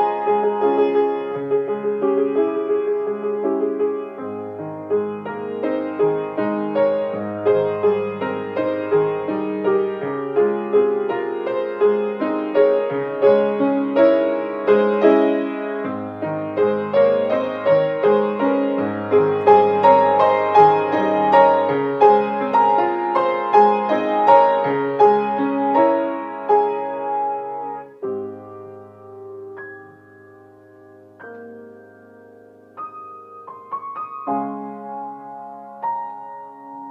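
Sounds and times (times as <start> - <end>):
piano music: 0.0 - 36.9.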